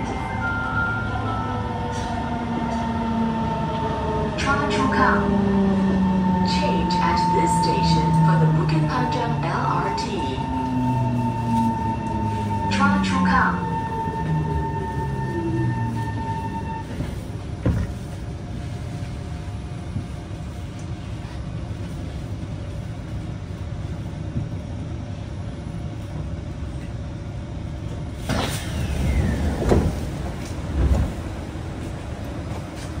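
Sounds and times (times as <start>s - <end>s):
train car rumble: 0.0s - 33.0s.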